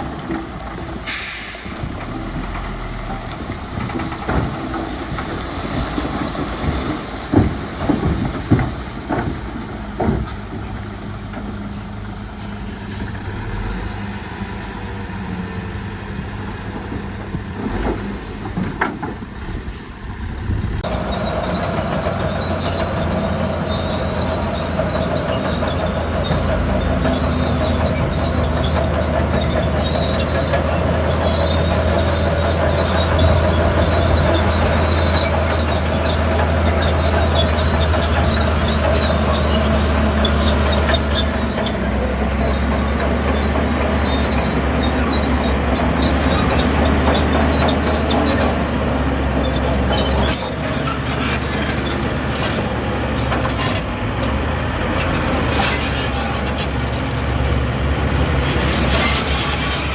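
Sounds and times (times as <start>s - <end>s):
metallic squeal of crawler tracks: 0.0s - 9.0s, 11.7s - 59.9s
diesel engine running: 0.0s - 59.9s.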